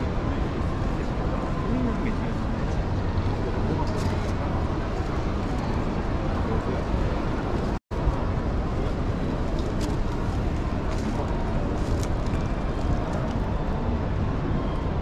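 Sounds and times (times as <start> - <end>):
murmur of visitors: 0.0 - 15.0.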